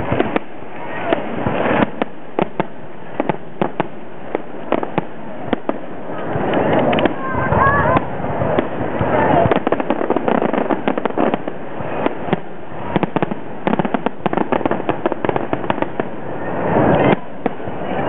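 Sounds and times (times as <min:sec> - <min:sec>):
fireworks popping: 0:00.0 - 0:18.0.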